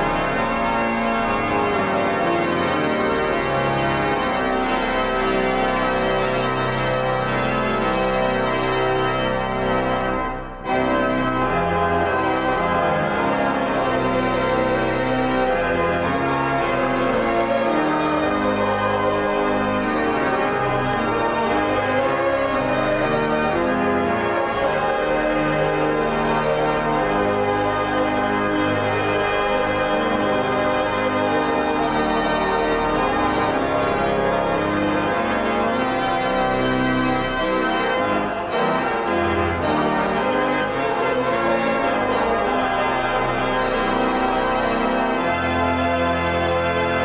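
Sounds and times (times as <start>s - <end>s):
organ chords: 0.0s - 47.0s.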